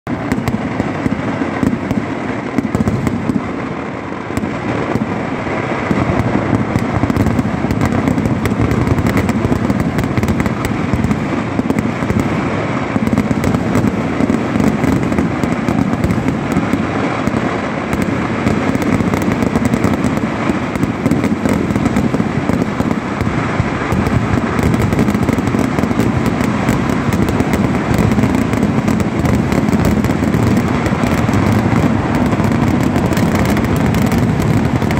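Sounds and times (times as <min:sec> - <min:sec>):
firecrackers crackling barrage: 0:00.0 - 0:34.9.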